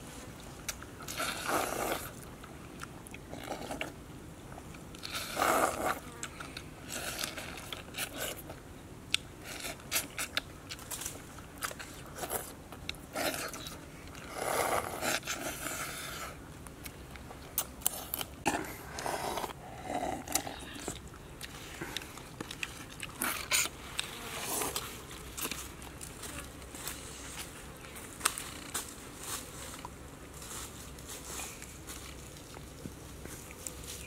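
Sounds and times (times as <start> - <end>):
people chewing and crunching: 0.0 - 34.0.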